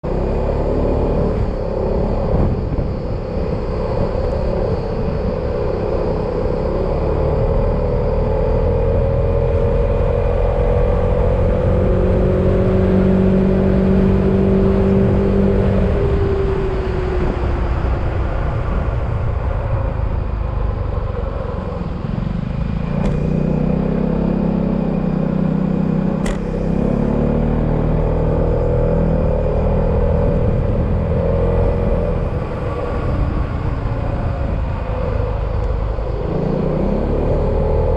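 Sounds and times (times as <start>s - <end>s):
wind and road rumble: 0.0s - 37.9s.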